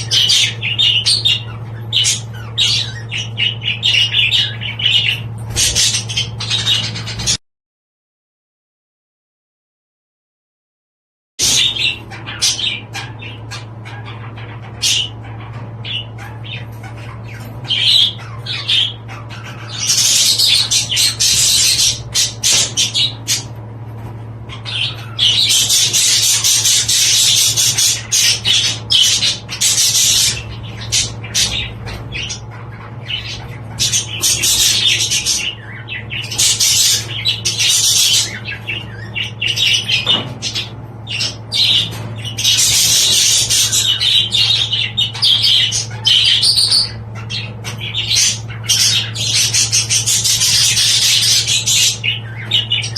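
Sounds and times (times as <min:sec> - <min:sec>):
budgerigars chattering and squawking: 0:00.0 - 0:07.4, 0:11.4 - 0:52.9
steady low hum: 0:00.0 - 0:07.4, 0:11.4 - 0:52.9.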